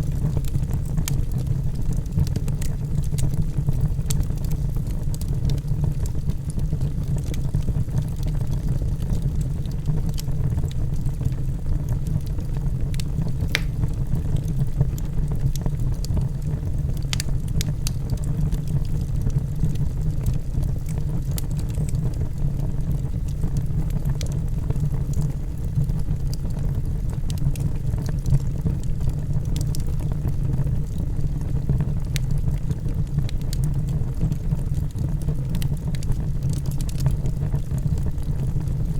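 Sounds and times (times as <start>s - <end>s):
fireplace flames rushing: 0.0s - 38.9s
logs crackling and popping: 0.0s - 38.9s.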